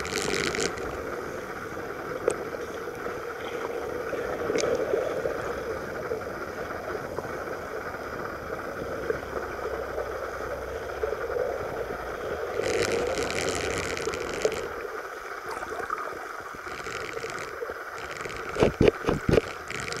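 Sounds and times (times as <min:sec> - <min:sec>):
hissing water rush: 0:00.0 - 0:20.0
muffled underwater hum: 0:00.0 - 0:20.0.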